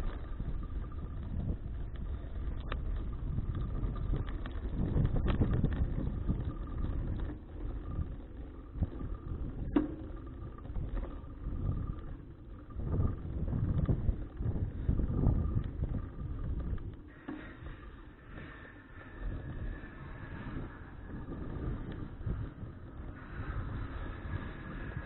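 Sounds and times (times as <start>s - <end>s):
bicycle clicks: 0.0s - 25.0s
wind buffeting microphone: 0.0s - 25.0s.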